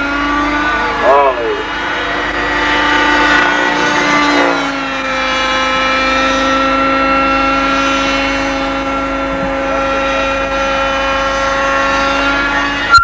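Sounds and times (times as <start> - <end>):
model helicopter engine whining: 0.0 - 12.9.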